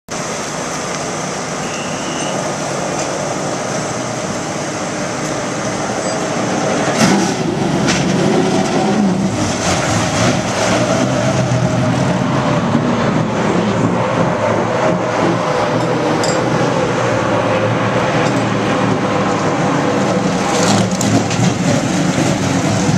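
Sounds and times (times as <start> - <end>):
race truck engines rumbling: 0.1 - 22.9.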